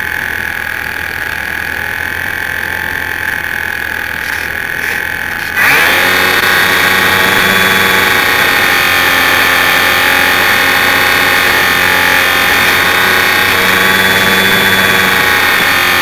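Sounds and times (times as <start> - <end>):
model plane motor whining: 0.0 - 16.0.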